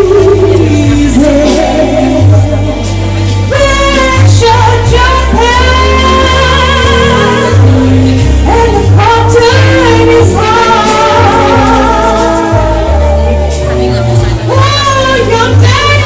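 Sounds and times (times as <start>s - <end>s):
band accompaniment: 0.0s - 16.0s
bass line: 0.0s - 16.0s
woman singing jazz: 0.0s - 16.0s.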